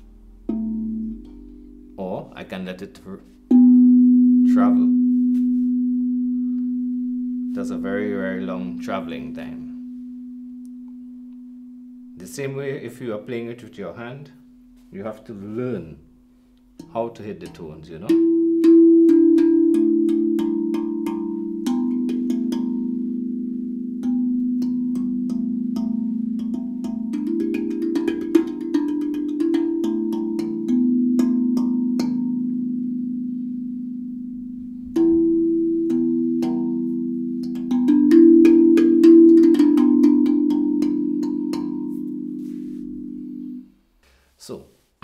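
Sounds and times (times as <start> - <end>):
steel tongue drum ringing notes: 0.0 - 13.6, 14.3 - 43.9.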